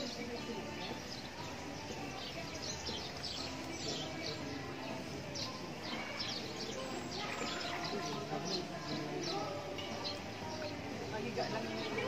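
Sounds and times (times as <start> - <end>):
birds chirping: 0.0 - 12.0
steady background noise: 0.0 - 12.0.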